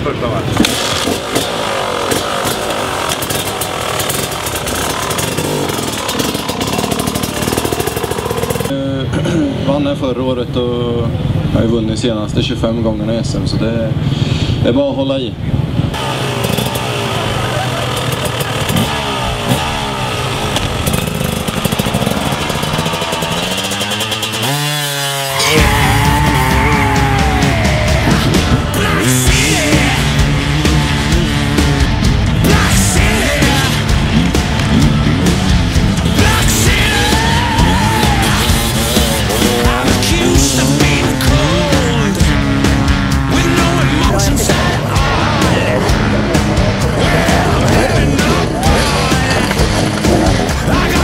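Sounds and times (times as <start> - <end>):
motorcycle engine revving: 0.0 - 8.9, 15.6 - 51.0.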